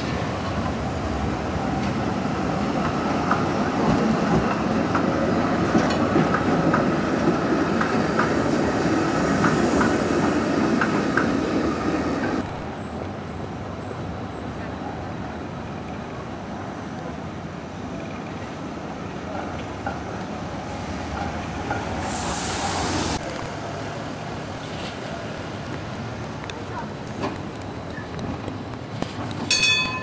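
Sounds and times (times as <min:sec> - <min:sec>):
tram wheels rumbling on track: 0:00.0 - 0:16.4, 0:17.0 - 0:30.0
street noise: 0:00.0 - 0:30.0.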